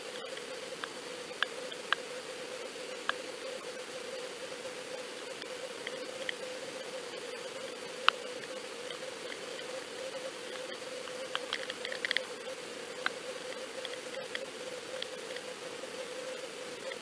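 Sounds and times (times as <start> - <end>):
underwater hiss and hum: 0.0 - 17.0
small clicks and ticks: 0.1 - 2.1, 2.9 - 3.7, 5.2 - 17.0.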